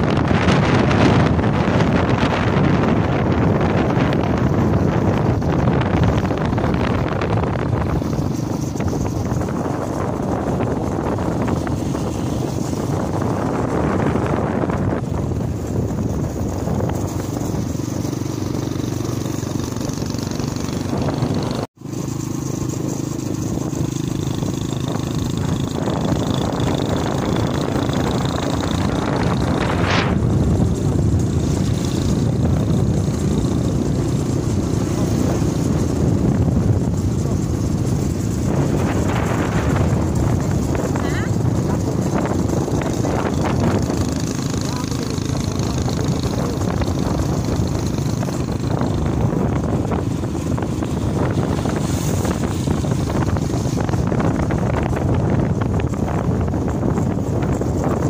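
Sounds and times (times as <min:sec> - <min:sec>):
road and wind rumble: 0:00.0 - 0:58.0
vehicle engine running: 0:00.0 - 0:58.0.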